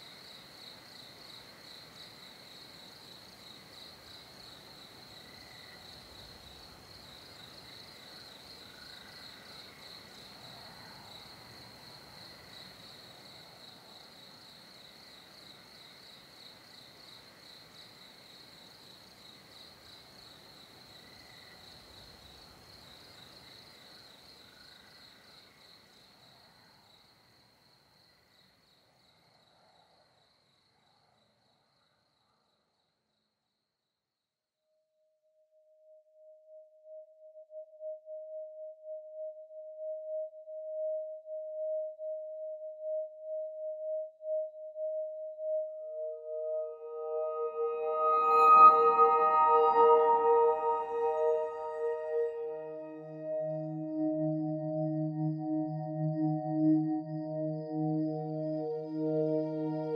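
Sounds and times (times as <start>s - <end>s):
fainter lower insect calls: 0.0s - 31.3s, 37.8s - 59.9s.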